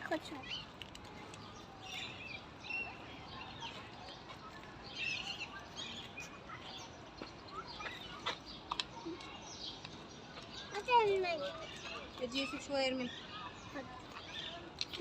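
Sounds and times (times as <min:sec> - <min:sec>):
birds chirping: 0:00.0 - 0:15.0
outdoor background noise: 0:00.0 - 0:15.0.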